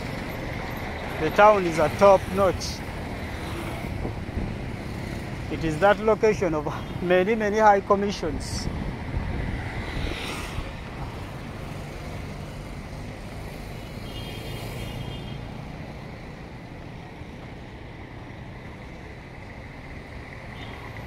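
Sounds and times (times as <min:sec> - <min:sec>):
road vehicles passing: 0:00.0 - 0:21.0.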